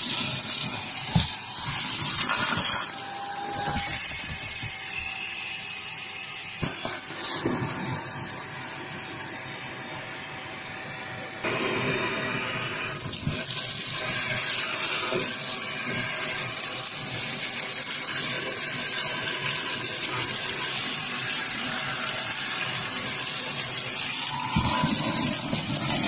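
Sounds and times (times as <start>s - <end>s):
handheld vacuum motor running: 0.0s - 8.4s, 13.0s - 26.0s.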